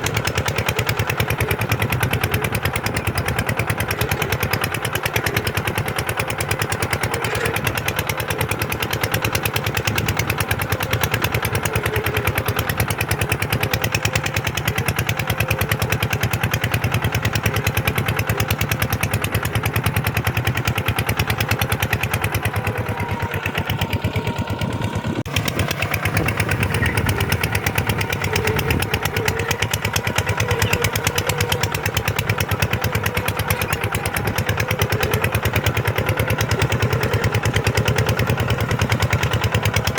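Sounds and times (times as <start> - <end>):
tractor diesel engine clattering: 0.0 - 39.9.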